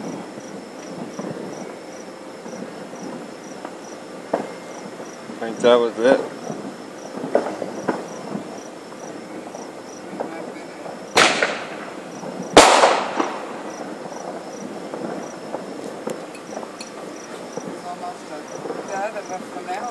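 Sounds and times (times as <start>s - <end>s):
crickets chirping: 0.0s - 19.9s
firework bangs: 0.0s - 19.9s.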